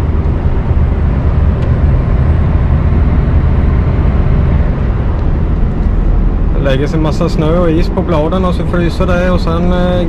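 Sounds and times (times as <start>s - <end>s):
diesel truck engine drone: 0.0s - 10.0s
tyre and road noise: 0.0s - 10.0s.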